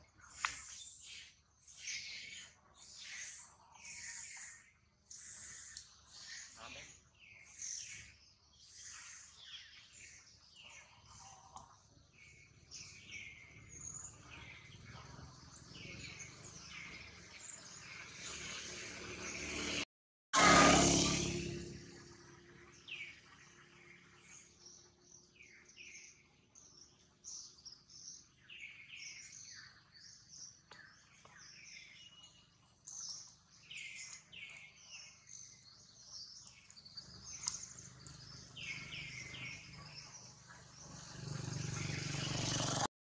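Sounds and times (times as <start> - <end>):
birds chirping and whistling: 0.2 - 11.2, 12.2 - 19.8, 20.6 - 42.9.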